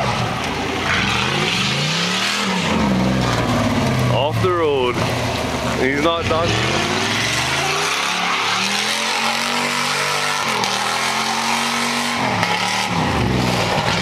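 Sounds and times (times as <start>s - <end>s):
car engine at high revs: 0.0s - 14.0s
tyres spinning on asphalt: 0.0s - 14.0s.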